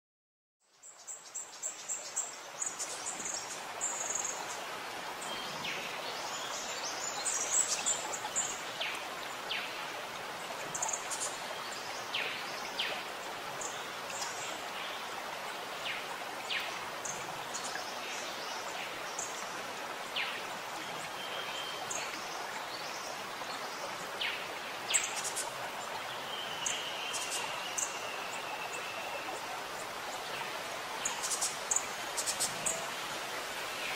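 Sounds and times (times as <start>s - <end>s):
flowing water: 0.6s - 33.9s.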